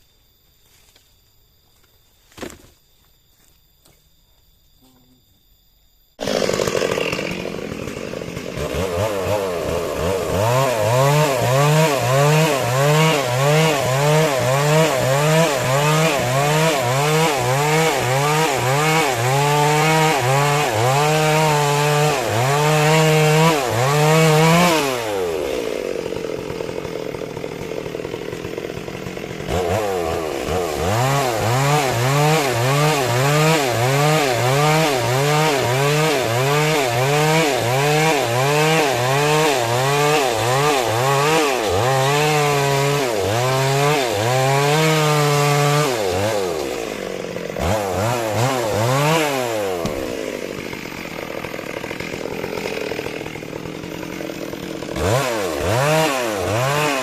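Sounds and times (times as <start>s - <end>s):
chainsaw cutting log: 2.3s - 2.8s, 6.2s - 57.0s.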